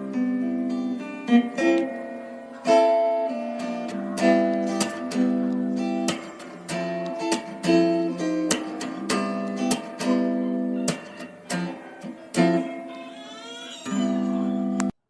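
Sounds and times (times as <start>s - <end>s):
acoustic guitar chords: 0.0s - 13.2s, 13.8s - 14.9s.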